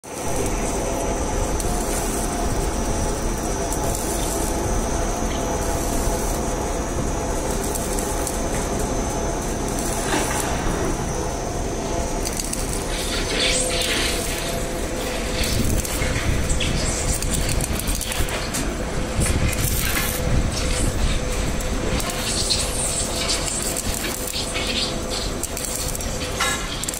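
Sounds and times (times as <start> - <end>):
machine humming: 0.0 - 26.9
welding crackling hiss: 0.0 - 26.9.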